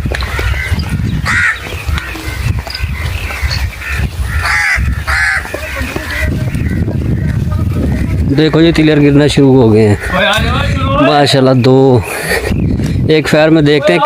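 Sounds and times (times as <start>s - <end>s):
flock of birds calling harshly: 0.0s - 14.0s.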